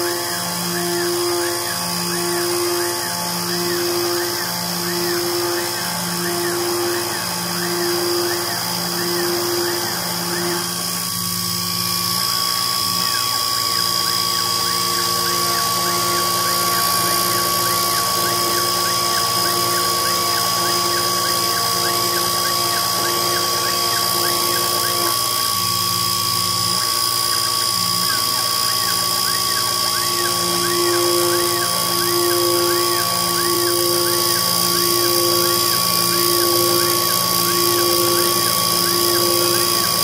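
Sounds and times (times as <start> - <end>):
milling machine spindle whine: 0.0 - 40.0
stepper motors whining: 0.0 - 40.0.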